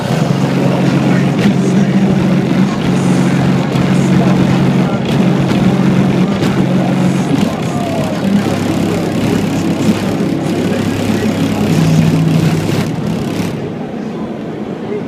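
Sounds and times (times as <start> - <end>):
distorted subwoofer bass: 0.0 - 13.8.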